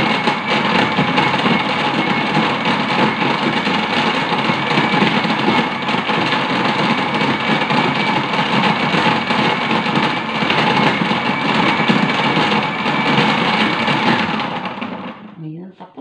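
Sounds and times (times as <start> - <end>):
electric blender running: 0.0 - 15.3.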